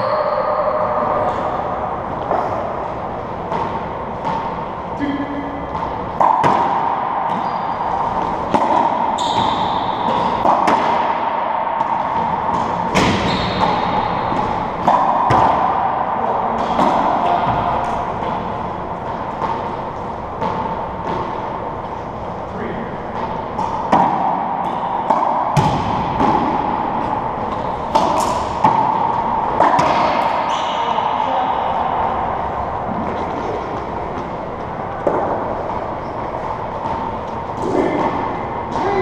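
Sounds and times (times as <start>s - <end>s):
racquetball ball knocks echoing: 5.4s - 21.8s, 23.1s - 39.0s.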